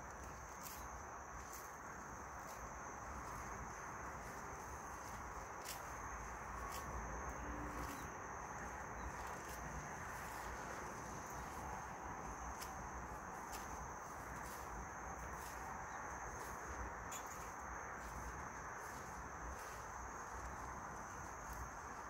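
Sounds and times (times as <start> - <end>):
insect chirring: 0.0 - 22.0.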